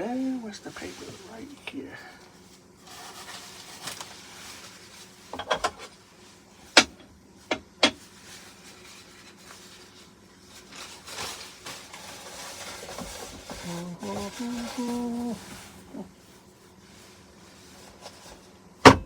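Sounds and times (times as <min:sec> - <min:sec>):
rubbing and rustling: 0:00.0 - 0:18.9.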